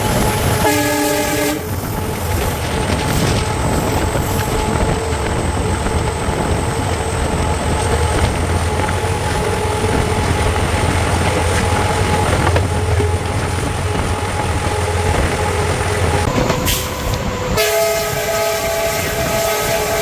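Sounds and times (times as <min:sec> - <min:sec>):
diesel locomotive engine hum: 0:00.0 - 0:20.0
train coaches rolling on track: 0:00.0 - 0:20.0.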